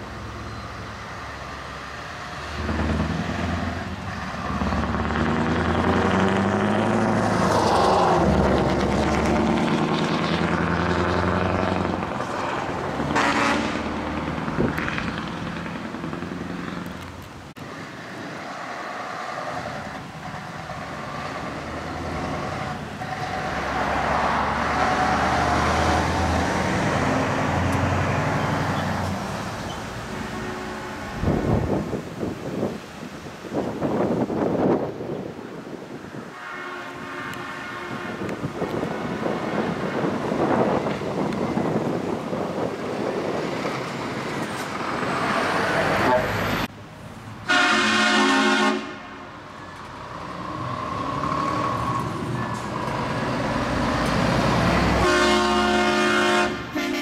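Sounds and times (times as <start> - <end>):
heavy trucks driving past: 0.0 - 57.0.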